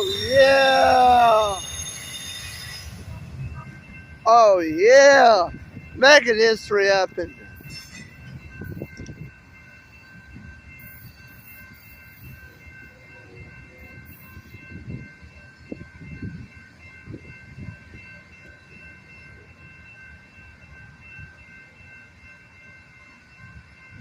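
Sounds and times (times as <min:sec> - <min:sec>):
steady high ringing tone: 0:00.0 - 0:24.0.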